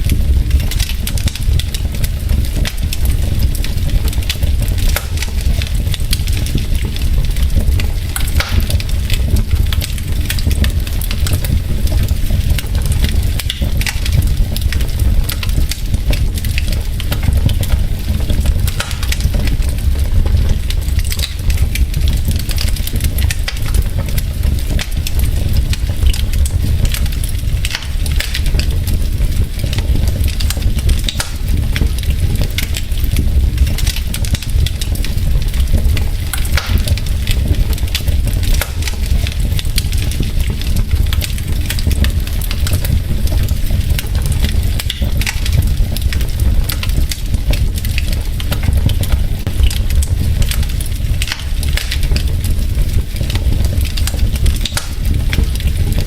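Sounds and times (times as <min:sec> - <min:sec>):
logs crackling in fireplace: 0:00.0 - 0:56.0
low fire rumble: 0:00.0 - 0:56.0.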